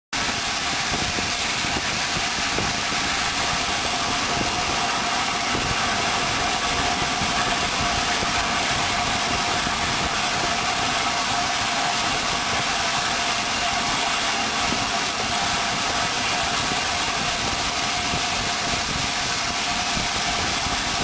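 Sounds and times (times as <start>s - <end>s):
train running rumble and hiss: 0.1s - 21.0s.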